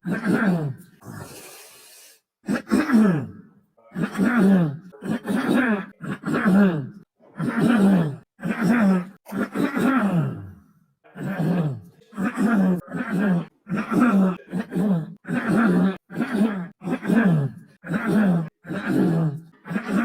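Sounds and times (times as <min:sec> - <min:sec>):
man clearing throat and coughing: 0:00.0 - 0:01.0, 0:02.5 - 0:20.0.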